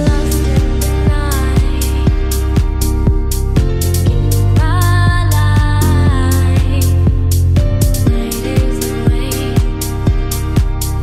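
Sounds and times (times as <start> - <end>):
pop music with beat: 0.0 - 11.0.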